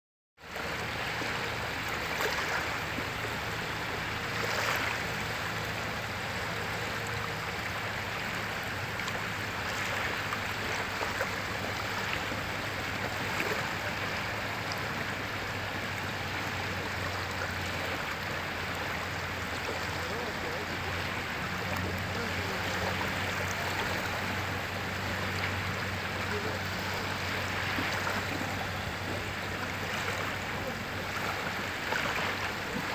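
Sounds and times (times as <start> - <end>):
small waves lapping: 0.4 - 32.9.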